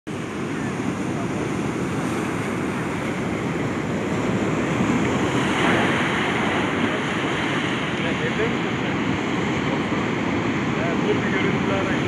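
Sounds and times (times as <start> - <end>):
waves breaking on rocky shore: 0.1 - 12.0
wind rumbling on microphone: 0.1 - 12.0.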